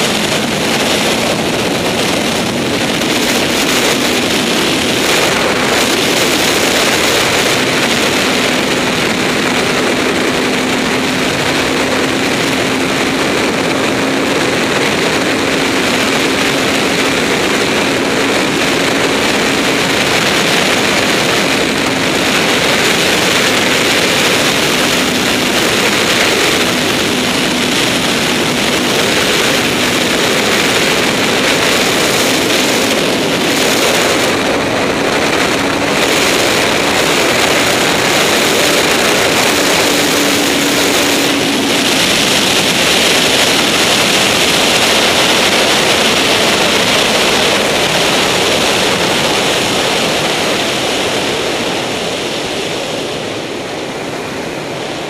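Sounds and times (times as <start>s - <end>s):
faint motorcycle engine: 0.0s - 52.0s
heavy wind rush: 0.0s - 55.0s.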